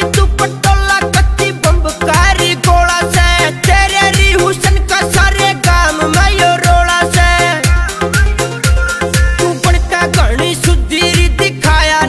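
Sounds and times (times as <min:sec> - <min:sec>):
dance music with booming bass: 0:00.0 - 0:12.0.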